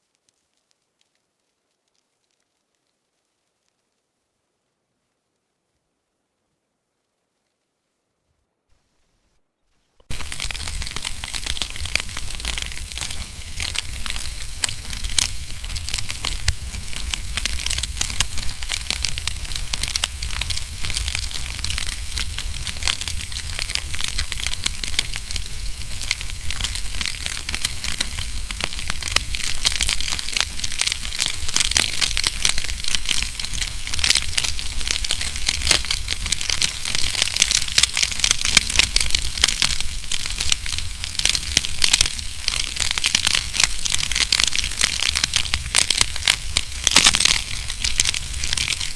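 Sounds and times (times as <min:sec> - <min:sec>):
wood fire crackling: 0:00.0 - 0:03.9, 0:10.0 - 0:48.9.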